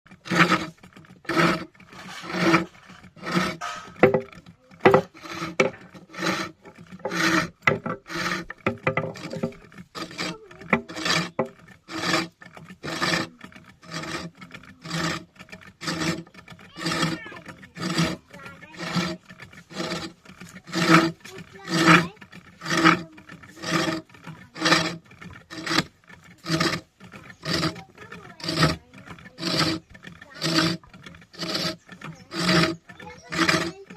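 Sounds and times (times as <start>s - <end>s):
lathe tool rasping wood: 0.1s - 33.9s.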